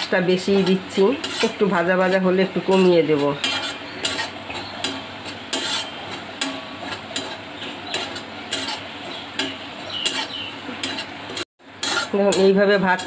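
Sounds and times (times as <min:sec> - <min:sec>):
metal spatula scraping a pan: 0:00.0 - 0:13.0.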